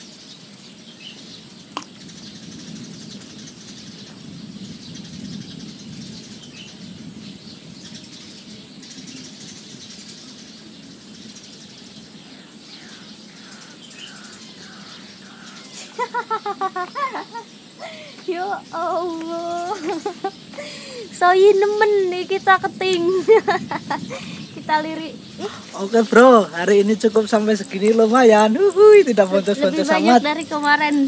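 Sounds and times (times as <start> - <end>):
bird chirping: 0.0 - 31.0
steady rushing background noise: 0.0 - 31.0.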